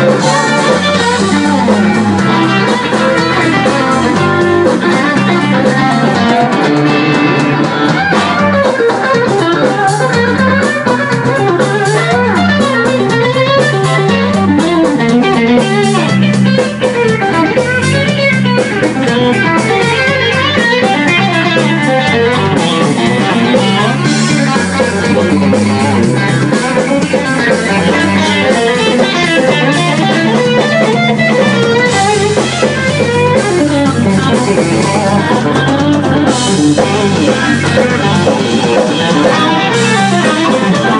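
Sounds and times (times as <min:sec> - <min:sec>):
electric guitar lead line: 0:00.0 - 0:40.9
live blues band playing: 0:00.0 - 0:40.9.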